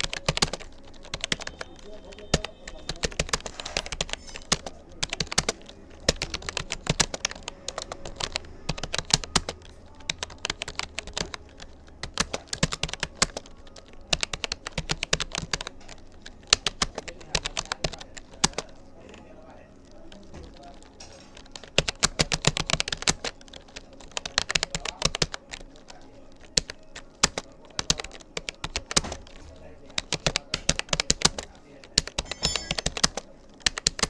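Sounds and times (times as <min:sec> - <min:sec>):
computer keyboard typing: 0:00.0 - 0:34.0.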